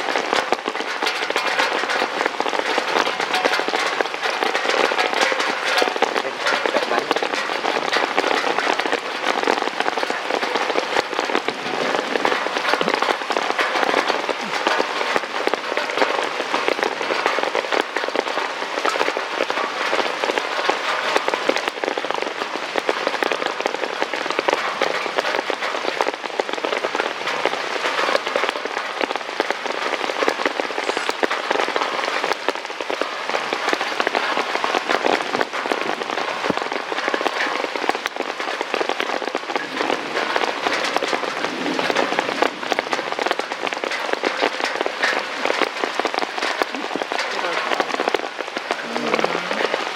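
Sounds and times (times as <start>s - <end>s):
heavy rain on hard surface: 0.0s - 49.9s.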